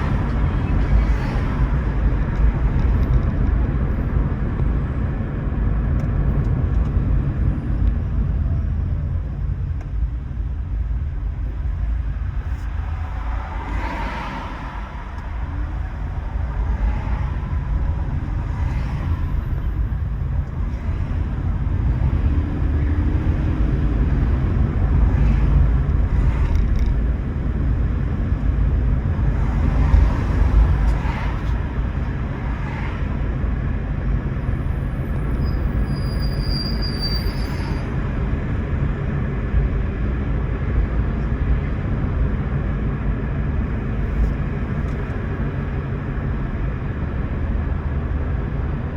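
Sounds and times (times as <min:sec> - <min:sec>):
road and tyre rumble: 0:00.0 - 0:48.9.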